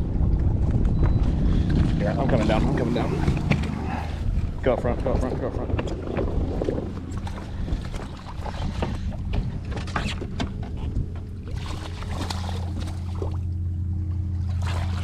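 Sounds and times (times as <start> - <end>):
motor humming: 1.1 - 15.0.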